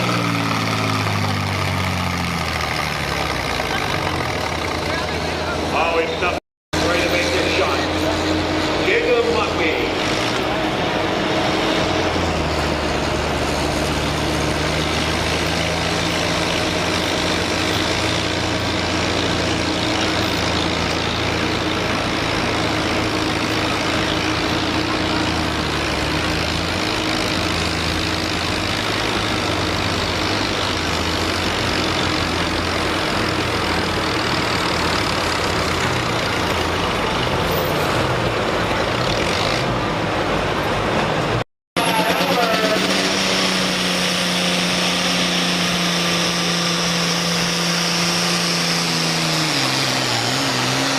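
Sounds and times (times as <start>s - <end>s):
tractor engine running hard: 0.0s - 50.9s.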